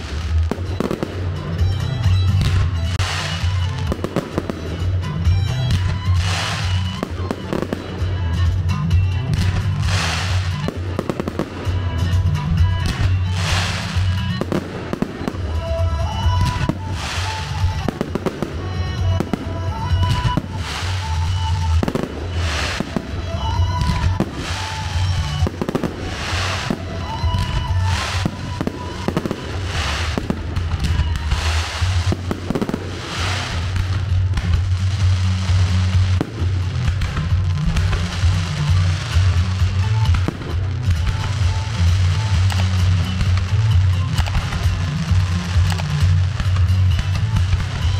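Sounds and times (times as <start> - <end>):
fireworks bangs and crackling: 0.0 - 47.9
music with heavy bass: 0.0 - 47.9.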